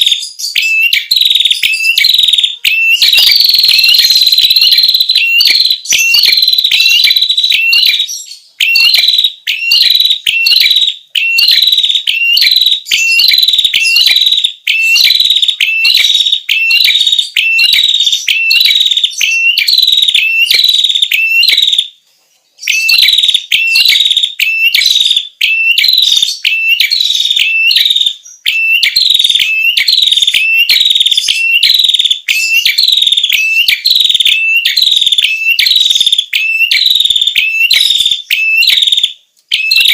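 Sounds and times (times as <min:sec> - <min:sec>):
bird song high chirps: 0:00.0 - 0:39.9.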